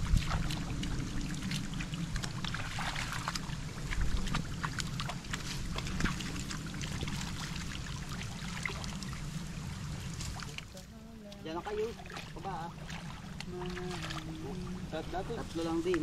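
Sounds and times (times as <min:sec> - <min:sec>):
splashes and squelches in muddy water: 0:00.0 - 0:16.0.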